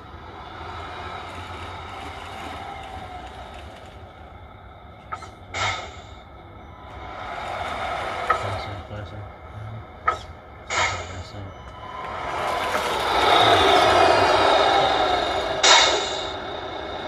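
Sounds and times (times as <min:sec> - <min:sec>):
simulated truck engine sound: 0:00.0 - 0:17.0.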